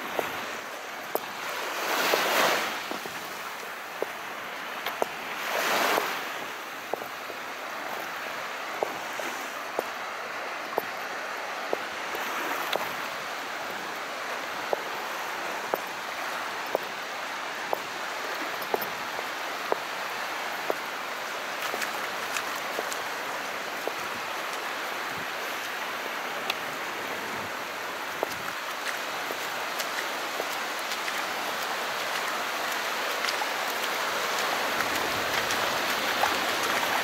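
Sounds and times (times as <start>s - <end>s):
sea waves washing in: 0.0s - 37.0s.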